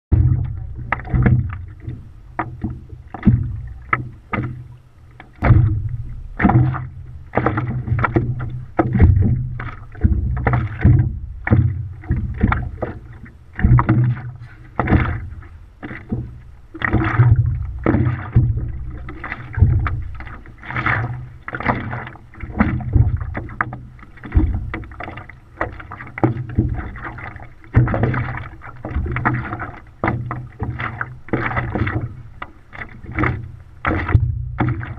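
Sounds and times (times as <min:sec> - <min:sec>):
low thuds: 0:00.1 - 0:34.9
water splashing against camera: 0:00.1 - 0:34.9.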